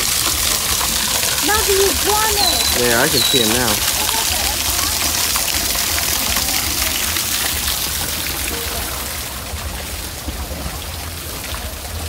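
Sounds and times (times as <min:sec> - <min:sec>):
water splashing into pond: 0:00.0 - 0:12.0.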